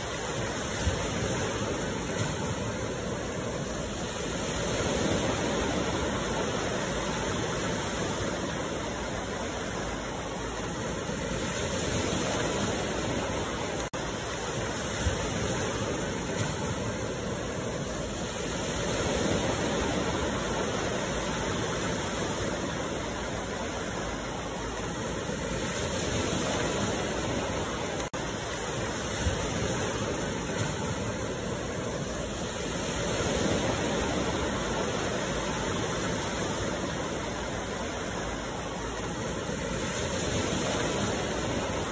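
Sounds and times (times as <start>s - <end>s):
waves washing up beach: 0.0s - 41.9s.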